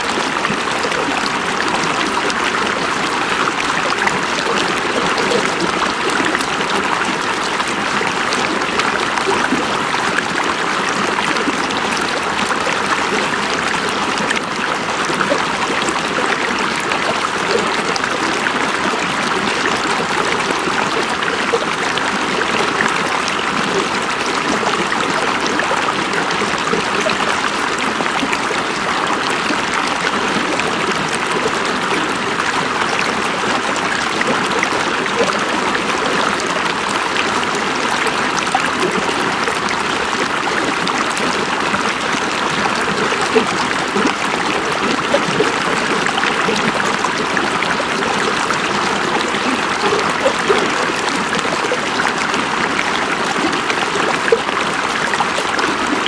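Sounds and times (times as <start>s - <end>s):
river water running over rocks: 0.0s - 56.0s.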